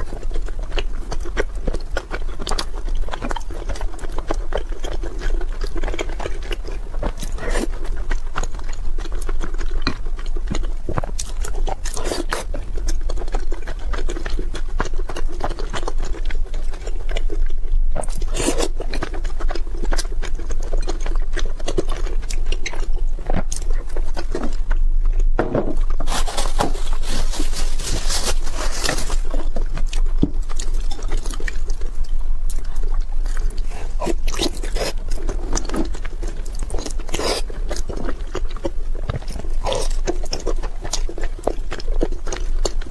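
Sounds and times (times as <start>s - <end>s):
wet chewing and lip smacks: 0.0s - 26.0s, 29.2s - 42.9s
steady low hum: 0.0s - 42.9s.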